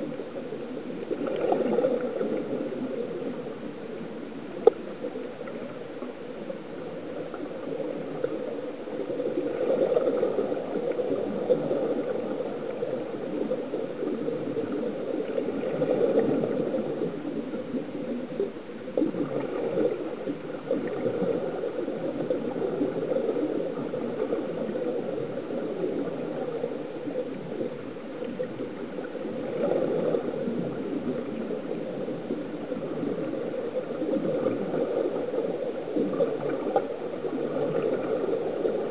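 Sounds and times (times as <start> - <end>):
underwater bubbling and gurgling: 0.0 - 38.9.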